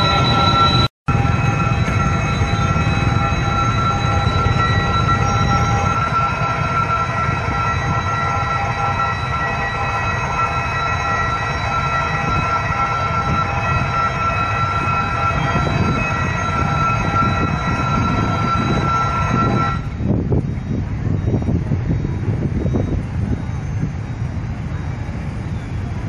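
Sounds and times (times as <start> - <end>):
diesel train rumble: 0.0 - 26.0
high-pitched whine: 0.0 - 26.0.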